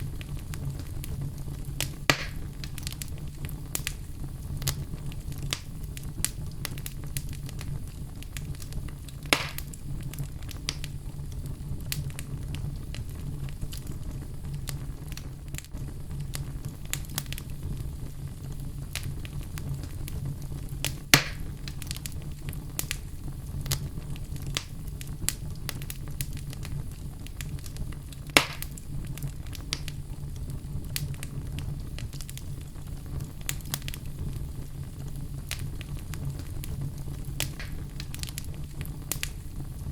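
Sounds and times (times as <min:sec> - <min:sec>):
fire popping: 0:00.0 - 0:39.9
fire rumbling and crackling: 0:00.0 - 0:39.9.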